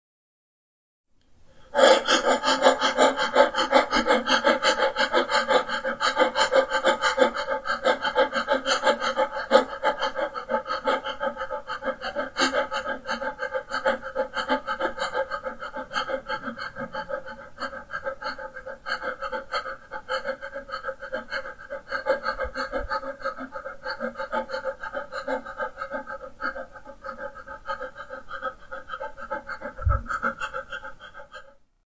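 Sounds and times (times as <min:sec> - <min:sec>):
man breathing rapidly: 0:01.5 - 0:31.6.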